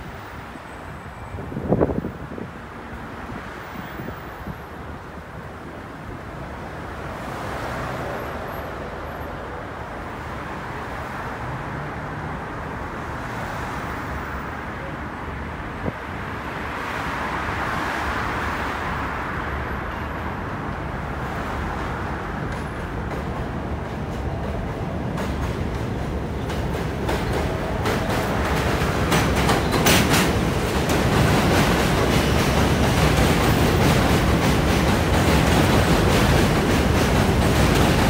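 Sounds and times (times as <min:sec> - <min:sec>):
road traffic on steel bridge: 0:00.0 - 0:38.0
subway train rumbling: 0:00.0 - 0:38.0.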